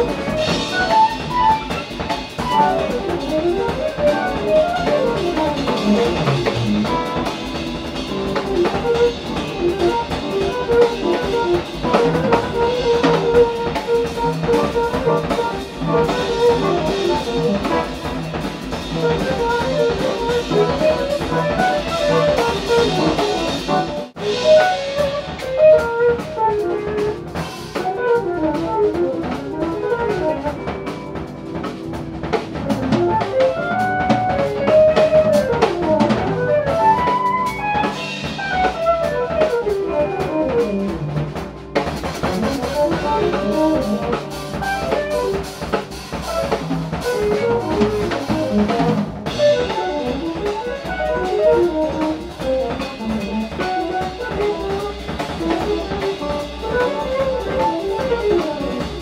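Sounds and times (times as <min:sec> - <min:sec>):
jazz fusion band playing: 0:00.0 - 0:59.0.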